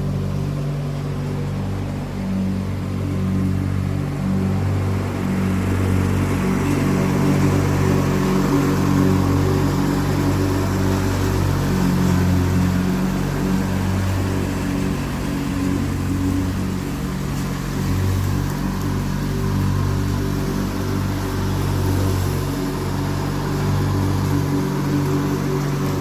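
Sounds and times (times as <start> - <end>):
riding lawn mower engine running: 0.0 - 26.0.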